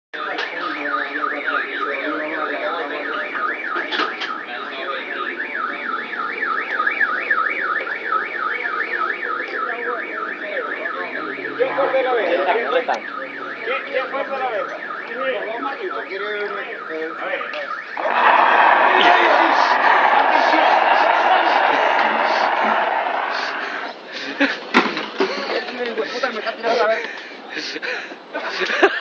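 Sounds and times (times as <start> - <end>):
voices: 0.2 - 29.0.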